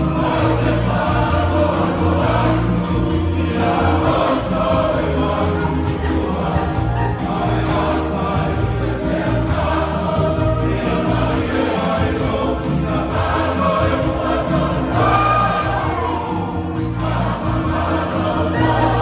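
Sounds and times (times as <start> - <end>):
church choir singing: 0.0 - 19.0
steady bass line: 0.0 - 19.0.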